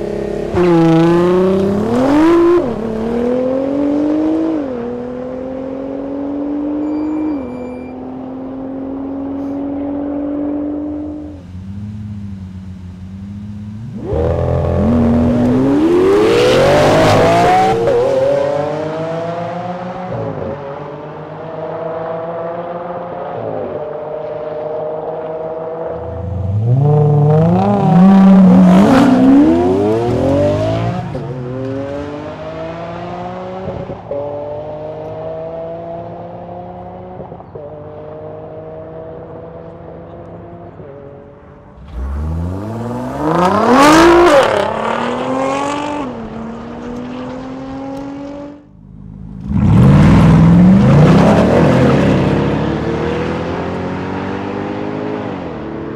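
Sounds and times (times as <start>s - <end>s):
car engine accelerating hard: 8.4s - 55.9s.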